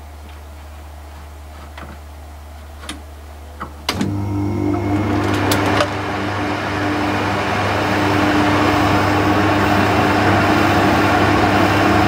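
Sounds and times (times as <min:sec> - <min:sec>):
dehumidifier fan humming: 0:00.0 - 0:12.0.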